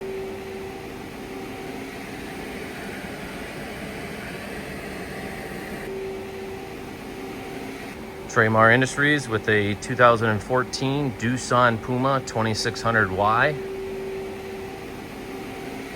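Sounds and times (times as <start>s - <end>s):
machinery hum and hiss: 0.0s - 15.9s.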